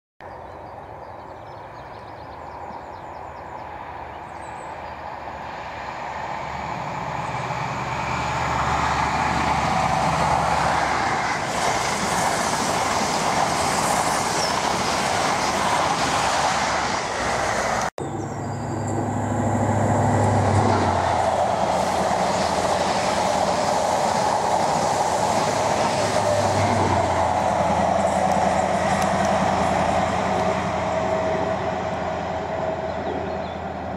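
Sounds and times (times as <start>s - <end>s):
train wheels rushing on rail: 2.6s - 33.9s.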